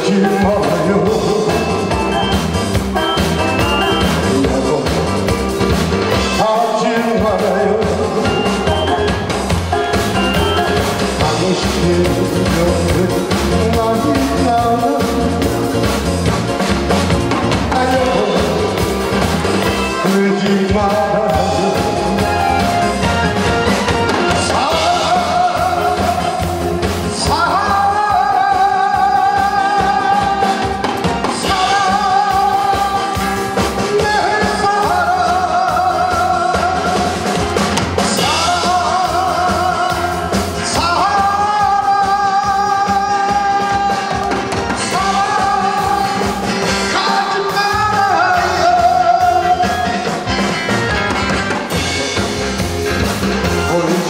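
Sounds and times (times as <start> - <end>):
man singing into microphone: 0.0 - 5.4, 6.1 - 15.9, 17.6 - 19.2, 19.8 - 22.7, 24.1 - 50.3, 53.5 - 54.0
backing track with drum beat: 0.0 - 54.0.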